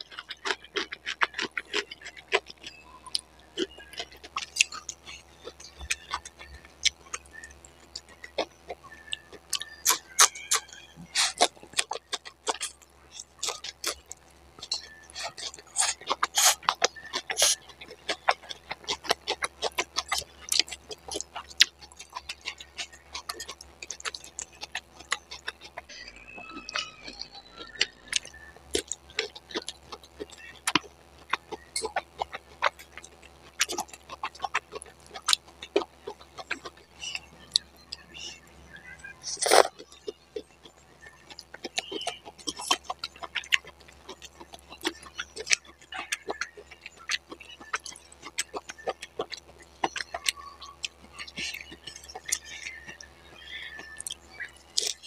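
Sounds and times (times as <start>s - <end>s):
chewing with wet mouth clicks: 0.0s - 55.0s.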